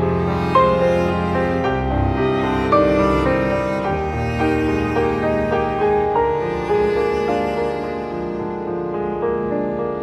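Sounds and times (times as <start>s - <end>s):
slow instrumental music: 0.0s - 10.0s.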